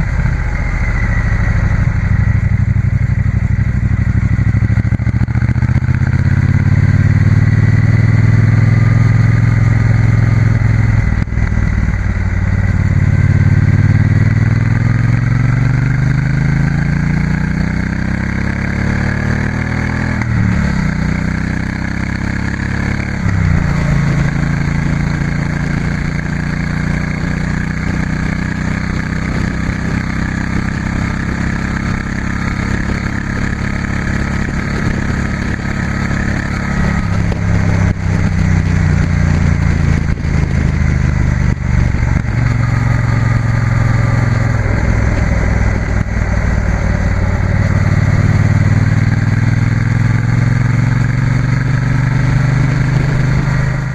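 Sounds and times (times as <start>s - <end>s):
motorcycle engine riding: 0.0s - 53.9s.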